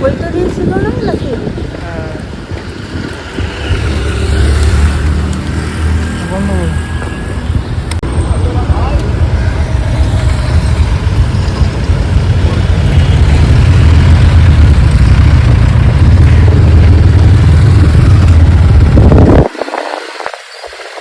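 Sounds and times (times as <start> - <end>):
motorcycle riding: 0.0 - 21.0
wind buffeting microphone: 0.0 - 21.0.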